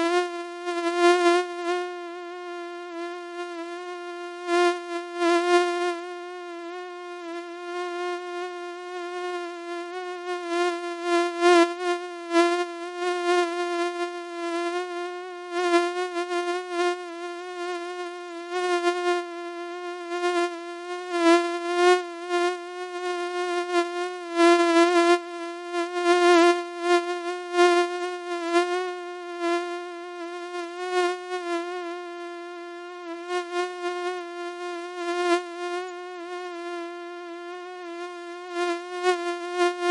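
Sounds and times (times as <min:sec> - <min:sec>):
mosquito whine: 0:00.0 - 0:39.9.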